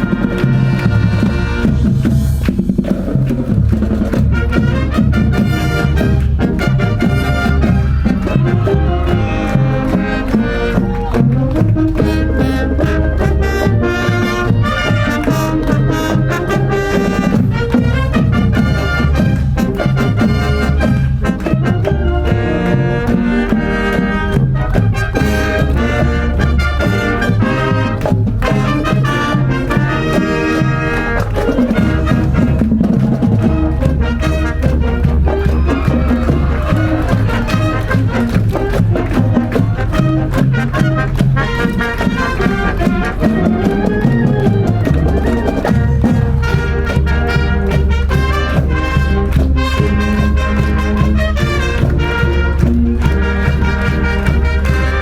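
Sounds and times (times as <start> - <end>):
brass instruments: 0.0 - 55.0
drums keeping a beat: 0.0 - 55.0
low bass line: 0.0 - 55.0
marching band playing: 0.0 - 55.0.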